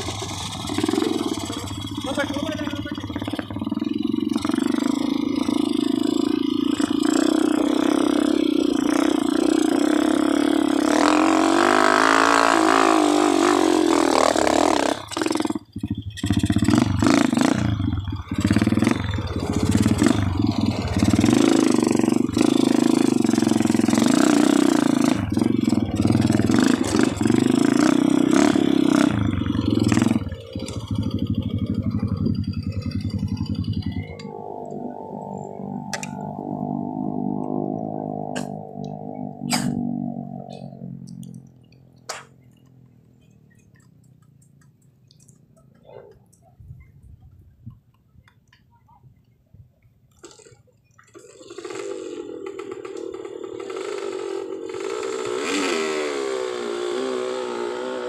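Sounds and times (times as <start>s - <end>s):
dirt bike engine revving: 0.0s - 41.5s, 51.1s - 58.0s.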